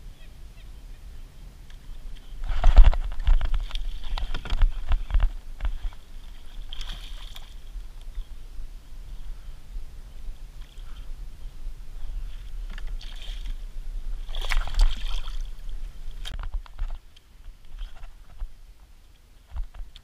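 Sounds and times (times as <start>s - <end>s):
water lapping at hull: 0.6s - 18.6s.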